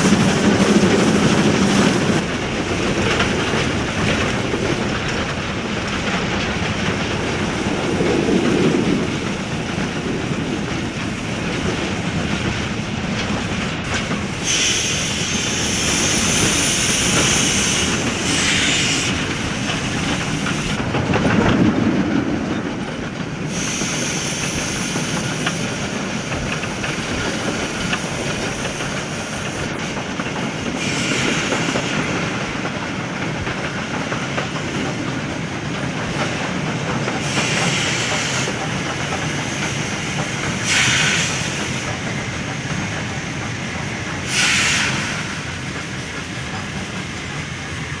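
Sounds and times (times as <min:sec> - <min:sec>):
steam hissing: 0:00.0 - 0:20.9, 0:23.0 - 0:48.0
train wheels clattering on track: 0:00.0 - 0:48.0.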